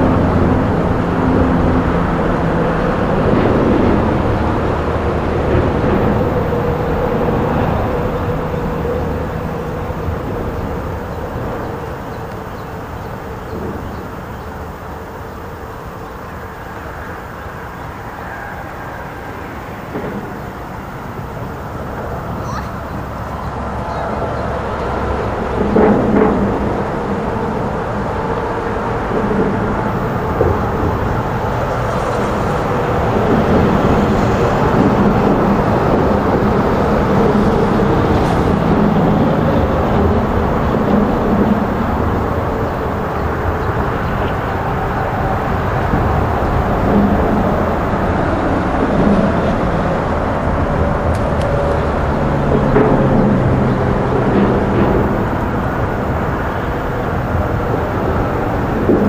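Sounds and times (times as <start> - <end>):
low rumbling outdoor noise: 0.0 - 59.0.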